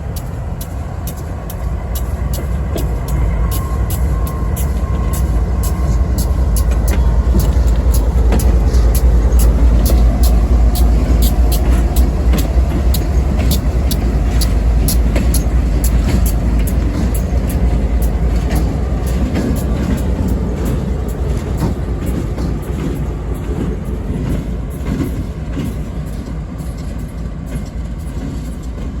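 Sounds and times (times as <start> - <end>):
train rolling past rumbling: 0.0 - 29.0
wheels clicking over rail joints: 0.0 - 29.0.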